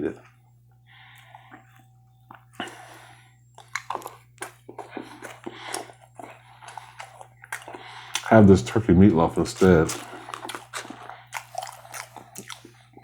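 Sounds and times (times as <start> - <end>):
chewing and mouth sounds: 1.0 - 13.0.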